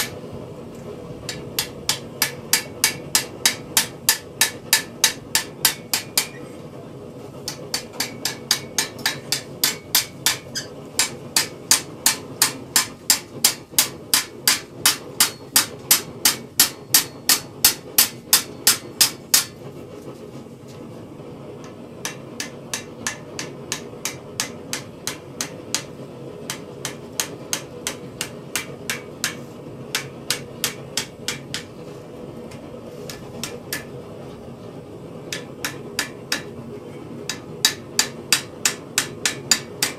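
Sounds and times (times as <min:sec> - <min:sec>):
hammer striking steel: 0:00.0 - 0:00.2, 0:01.2 - 0:06.5, 0:07.4 - 0:19.6, 0:22.0 - 0:31.9, 0:32.5 - 0:34.0, 0:35.3 - 0:36.6, 0:37.3 - 0:39.9.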